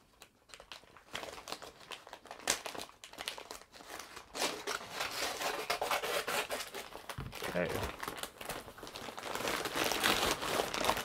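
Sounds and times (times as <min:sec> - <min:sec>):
plastic bag crinkling: 0:00.0 - 0:05.3, 0:06.6 - 0:11.0.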